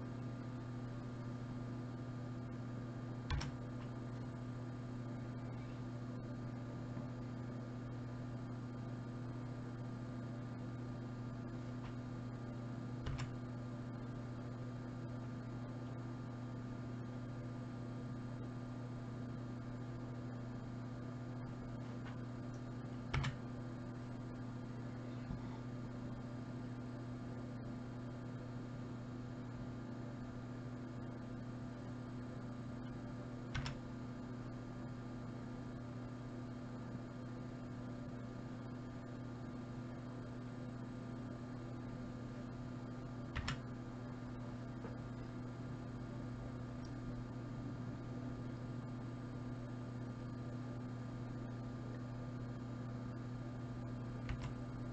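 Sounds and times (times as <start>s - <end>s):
electrical mains hum: 0.0s - 54.9s.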